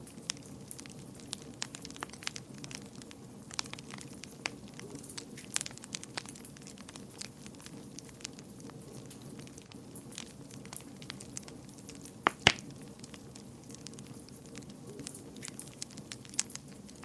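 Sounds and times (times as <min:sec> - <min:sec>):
low rumble of flame: 0:00.0 - 0:17.0
wood fire crackling and popping: 0:00.0 - 0:17.0.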